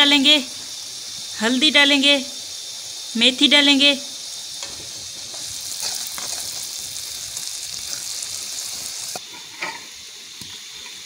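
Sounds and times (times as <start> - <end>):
masala sizzling in hot oil: 0.0 - 11.0.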